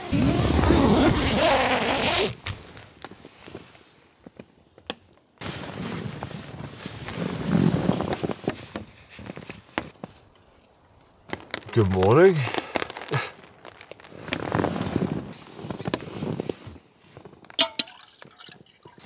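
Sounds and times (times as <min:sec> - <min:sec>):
rustling of nylon tent fabric: 0:00.0 - 0:17.5.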